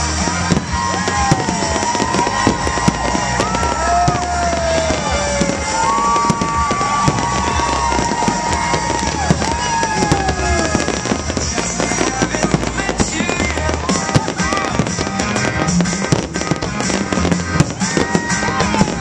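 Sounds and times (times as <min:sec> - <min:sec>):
fireworks booming and crackling: 0:00.0 - 0:19.0
firework whistles falling in pitch: 0:00.2 - 0:19.0.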